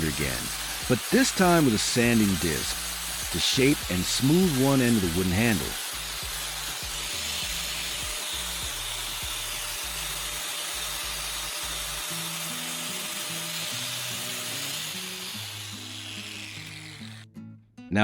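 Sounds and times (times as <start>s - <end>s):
angle grinder sanding wood: 0.0s - 17.2s.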